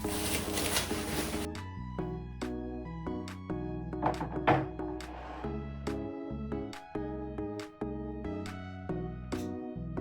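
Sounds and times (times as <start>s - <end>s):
background music with gentle notes: 0.0s - 10.0s.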